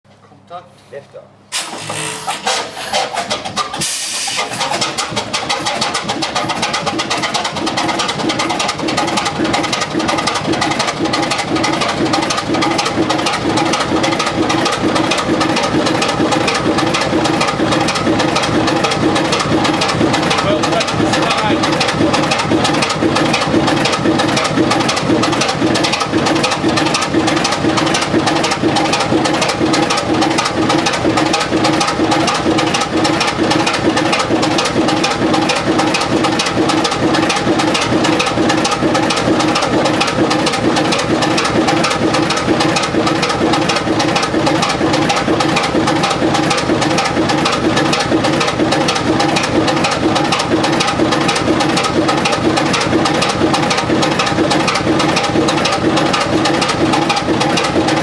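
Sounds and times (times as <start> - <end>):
diesel engine clattering: 1.6 - 58.0
engine cylinder knocking: 2.4 - 58.0.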